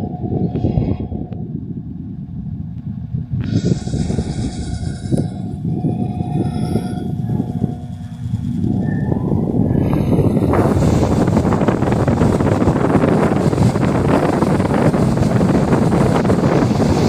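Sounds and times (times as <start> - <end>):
fan airflow buffeting microphone: 0.0 - 17.0.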